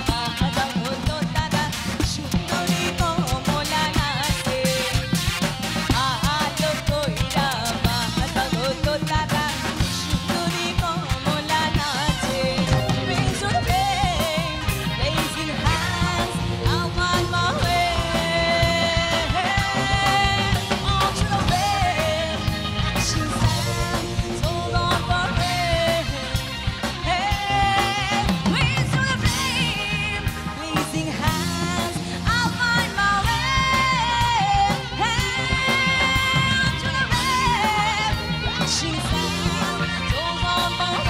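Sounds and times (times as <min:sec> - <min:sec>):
band with drums and guitars: 0:00.0 - 0:41.0
woman singing into a microphone: 0:00.0 - 0:41.0.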